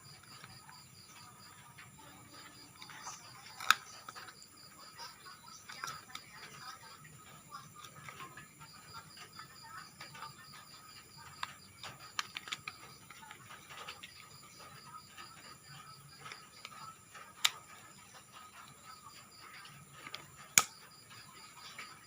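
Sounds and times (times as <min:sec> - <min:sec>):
plastic toy parts clicking: 0:00.1 - 0:22.0.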